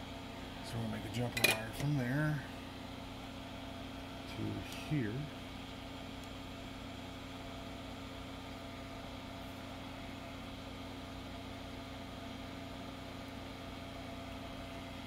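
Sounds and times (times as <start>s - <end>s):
exhaust fan humming: 0.0s - 15.0s.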